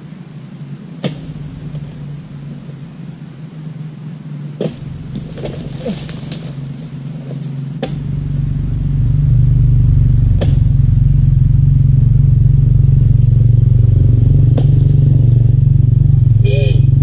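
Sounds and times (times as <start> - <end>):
motor running loud and low: 0.0 - 17.0.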